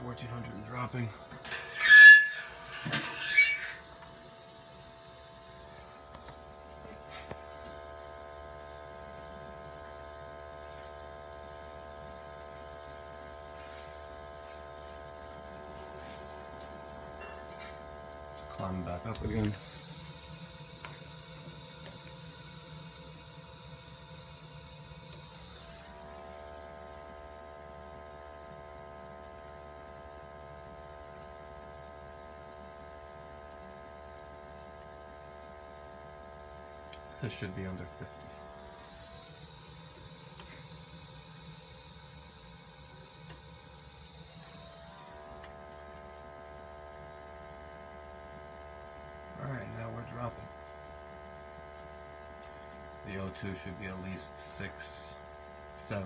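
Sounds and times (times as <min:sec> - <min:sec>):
machine hum with pitched tones: 0:00.0 - 0:56.0.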